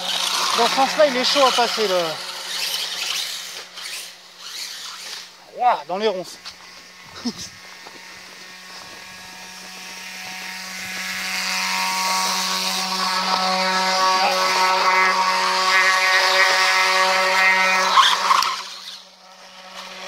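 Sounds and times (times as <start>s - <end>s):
motor and flywheel whining: 0.0s - 20.0s.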